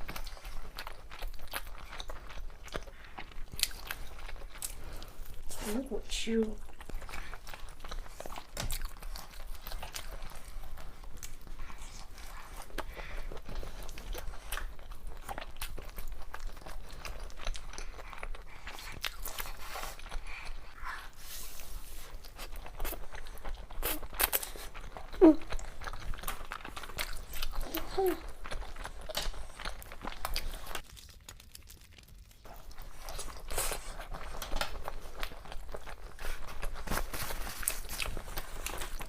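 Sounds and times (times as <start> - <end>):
close chewing and biting food: 0.0 - 39.0.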